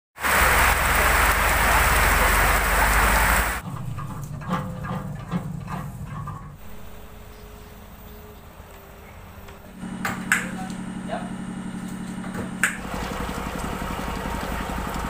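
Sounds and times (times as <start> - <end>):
low hum: 0.3 - 15.0.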